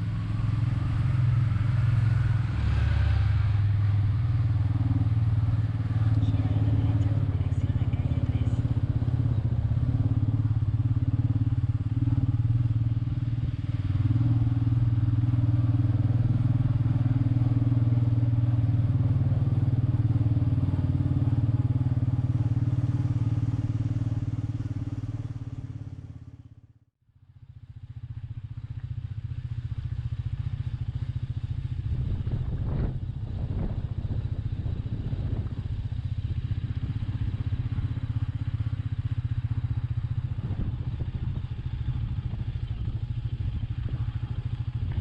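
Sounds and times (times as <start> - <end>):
motorcycle engine cruising: 0.0 - 45.0
road and wind noise: 0.0 - 45.0.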